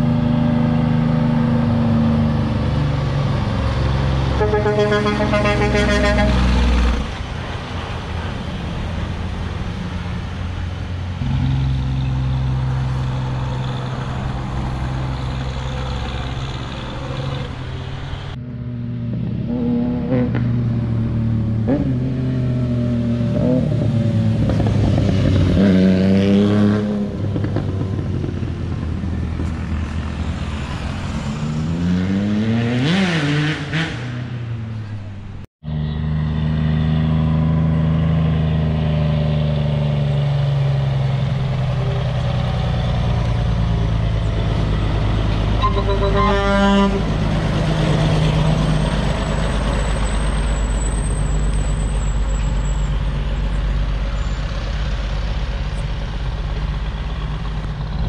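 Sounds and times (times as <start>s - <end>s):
heavy diesel truck engines: 0.0s - 58.0s.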